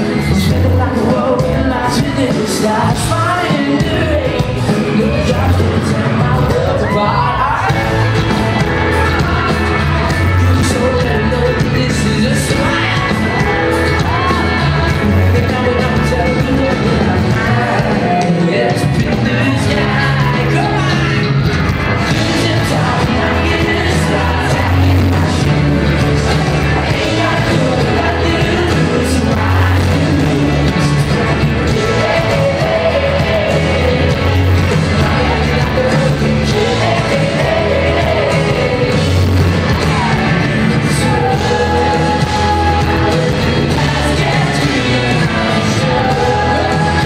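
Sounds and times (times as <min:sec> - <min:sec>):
person singing lead: 0:00.0 - 0:21.2, 0:22.1 - 0:47.0
acoustic and electric guitars: 0:00.0 - 0:47.0
drums: 0:00.0 - 0:47.0
keyboard: 0:00.0 - 0:47.0.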